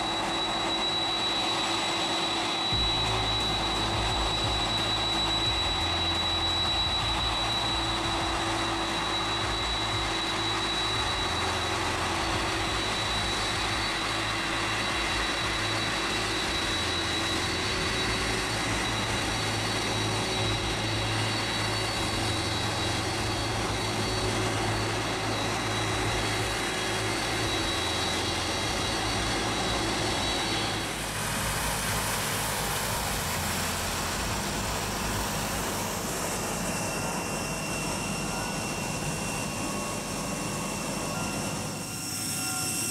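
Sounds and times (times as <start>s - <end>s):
jet engines rushing with whine: 0.0s - 42.9s.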